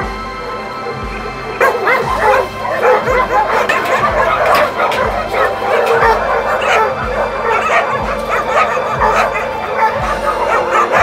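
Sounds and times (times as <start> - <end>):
background music with low beat: 0.0 - 11.0
dogs barking and yelping: 0.0 - 11.0.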